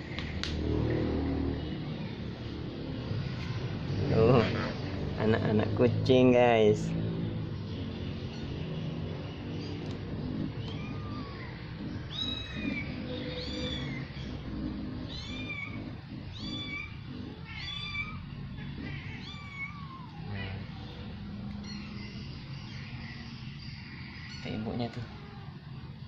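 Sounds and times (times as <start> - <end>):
kittens mewing: 0.0 - 5.6, 7.1 - 26.0.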